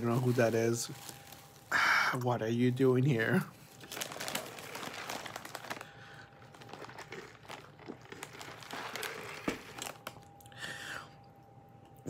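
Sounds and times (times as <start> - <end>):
packaging crinkling and crackling: 0.0 - 10.5.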